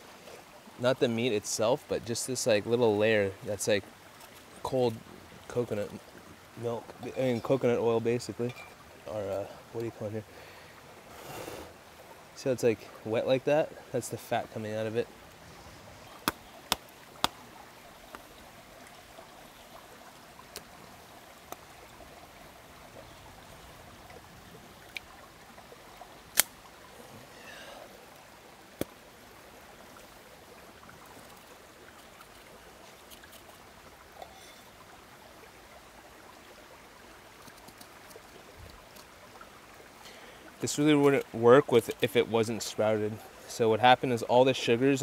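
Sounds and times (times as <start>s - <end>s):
stream running over rocks: 0.0s - 45.0s.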